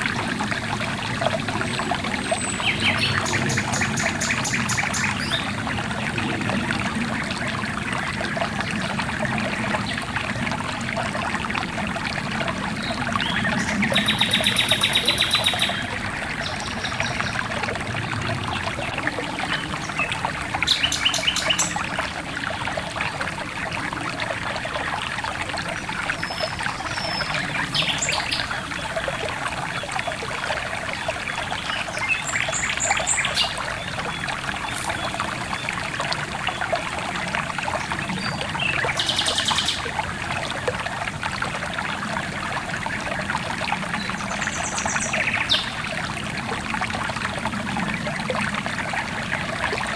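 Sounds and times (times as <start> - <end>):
stream water trickling: 0.0 - 49.9.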